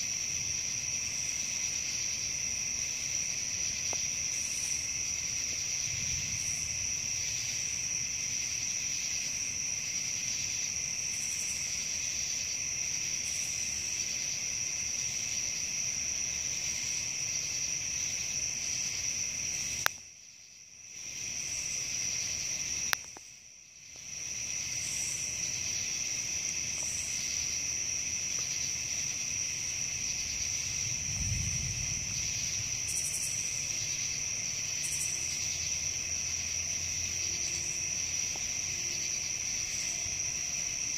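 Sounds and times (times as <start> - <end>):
crickets chirring: 0.0 - 40.9.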